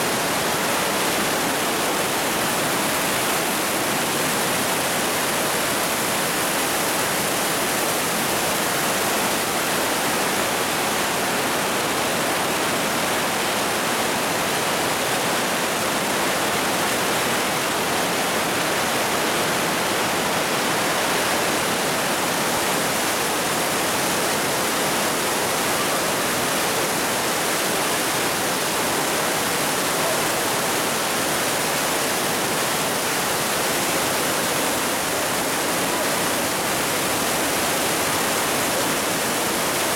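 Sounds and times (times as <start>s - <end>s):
white water rushing through gorge: 0.0s - 39.9s.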